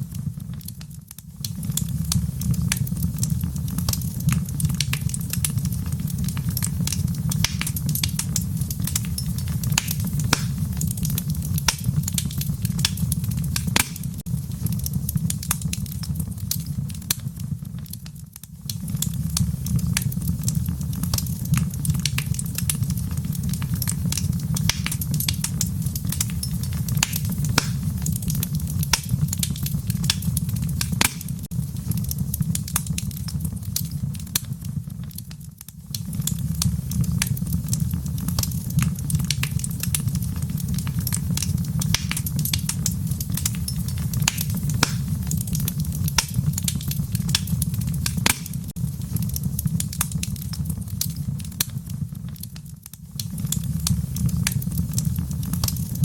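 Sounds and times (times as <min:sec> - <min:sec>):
fire popping and snapping: 0:00.0 - 0:56.0
fire rumbling: 0:00.0 - 0:56.0.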